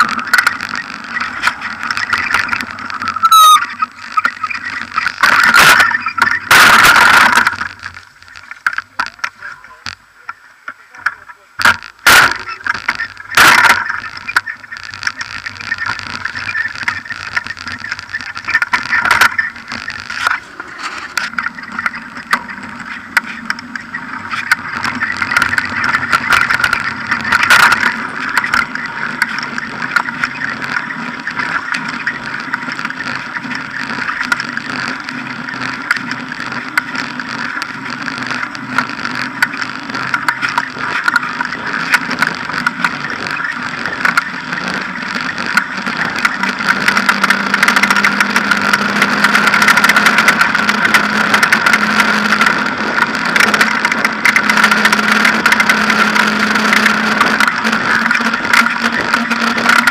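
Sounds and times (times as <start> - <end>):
bike knocking over rough ground: 0.0 - 9.8, 10.7 - 59.9
bike rolling and rattling: 0.0 - 59.9
tyre hum on road: 0.0 - 59.9.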